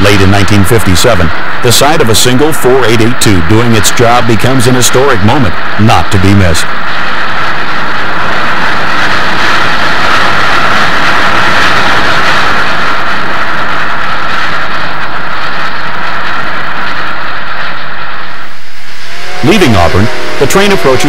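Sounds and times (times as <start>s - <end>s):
steam locomotive exhaust rushing: 0.0s - 21.0s.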